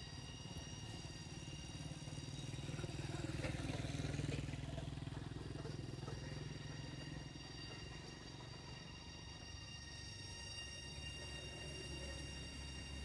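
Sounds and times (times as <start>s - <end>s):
small engine passing by: 0.0s - 13.0s.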